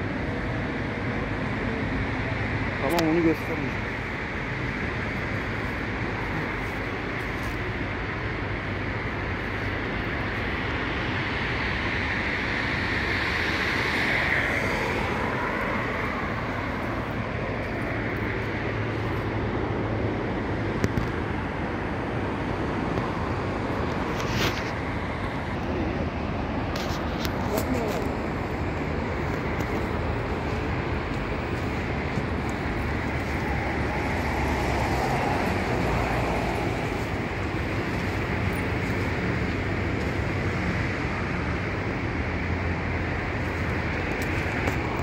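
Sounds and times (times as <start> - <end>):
outdoor rushing noise: 0.0 - 45.0.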